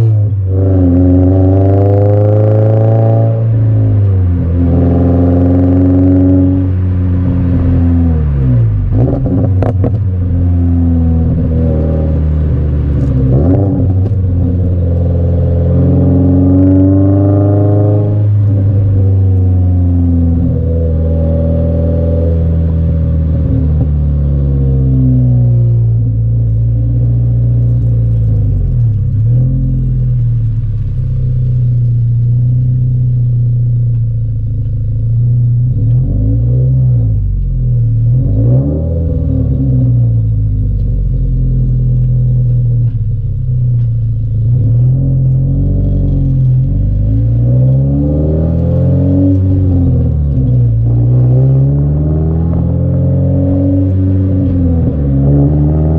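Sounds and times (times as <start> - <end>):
car engine cruising drone: 0.0 - 55.9.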